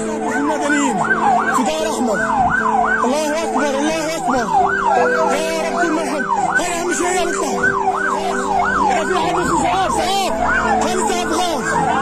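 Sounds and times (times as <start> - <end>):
ambulance sirens yelping: 0.0 - 12.0.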